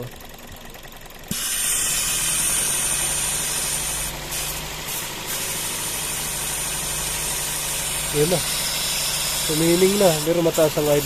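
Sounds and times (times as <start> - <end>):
car engine idling: 0.0 - 11.0
vacuum leak hissing: 1.3 - 11.0.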